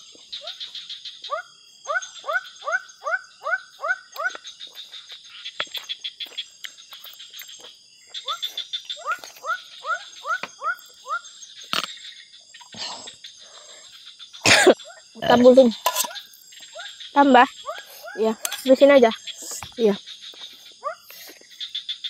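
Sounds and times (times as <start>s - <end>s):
frog calling: 0.0s - 22.0s
insects buzzing: 0.0s - 22.0s.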